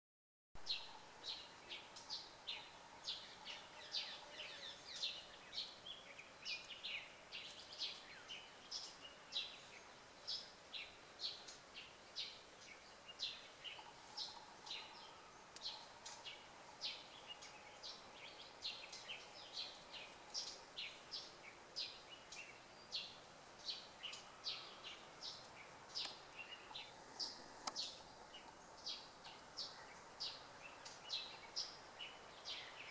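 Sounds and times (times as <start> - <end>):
birds chirping: 0.6 - 32.9
faint background hiss: 0.6 - 32.9.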